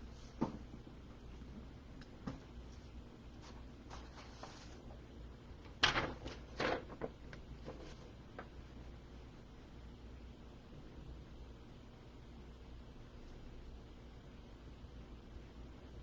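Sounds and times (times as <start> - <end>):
room hum: 0.0 - 16.0.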